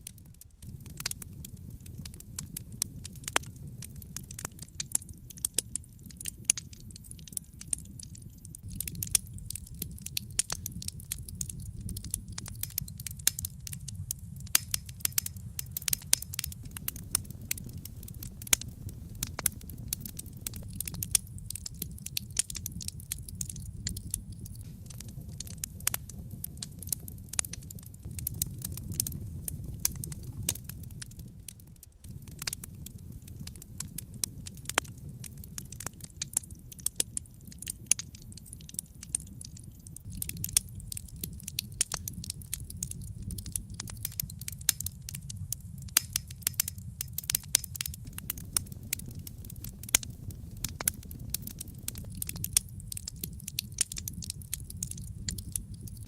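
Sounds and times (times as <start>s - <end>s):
low rush of flame: 0.0s - 56.0s
wood fire crackling: 0.0s - 56.0s.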